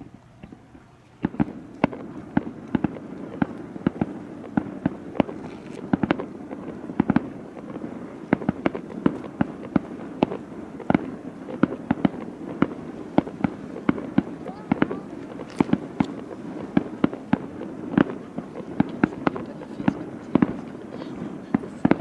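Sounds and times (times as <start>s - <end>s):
fireworks bangs: 0.0s - 22.0s
low rumble of reports: 0.0s - 22.0s.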